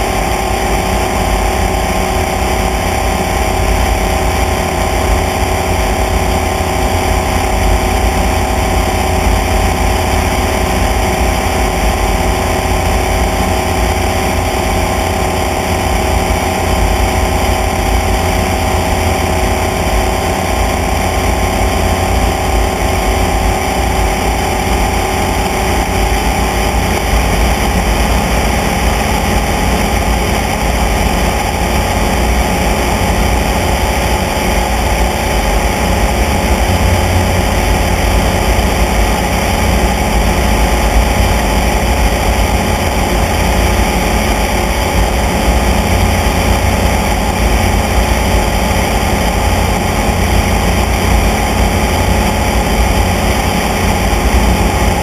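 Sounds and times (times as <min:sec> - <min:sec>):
light aircraft engine drone: 0:00.0 - 0:55.0.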